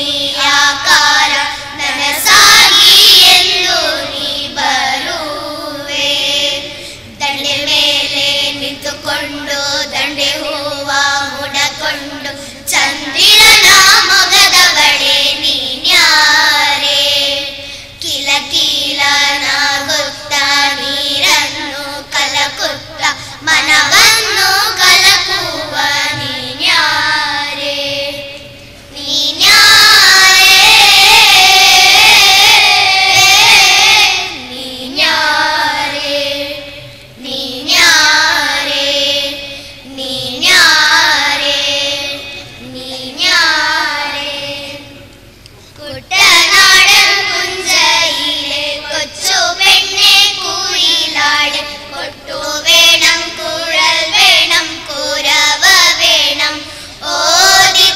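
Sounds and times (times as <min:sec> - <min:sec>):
children singing in chorus: 0:00.0 - 0:45.1, 0:45.8 - 0:57.9.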